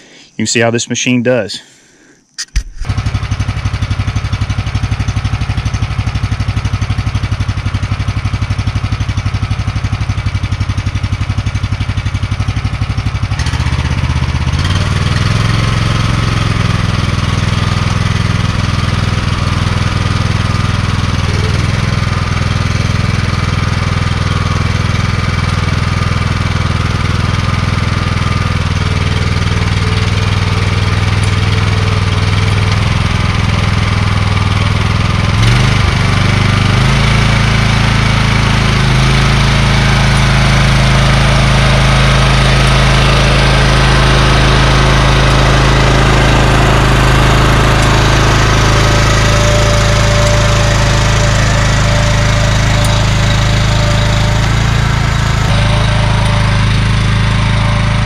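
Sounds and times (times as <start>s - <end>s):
walk-behind tractor engine running: 2.8s - 58.0s.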